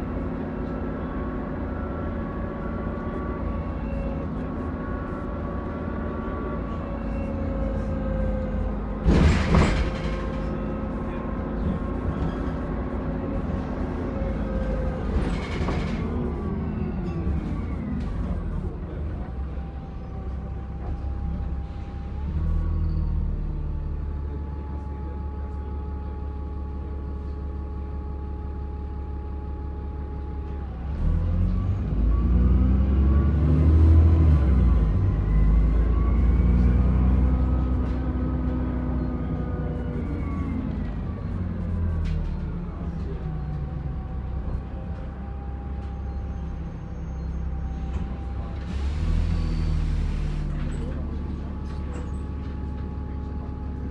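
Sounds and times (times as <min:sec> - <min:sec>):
bus diesel engine: 0:00.0 - 0:53.9.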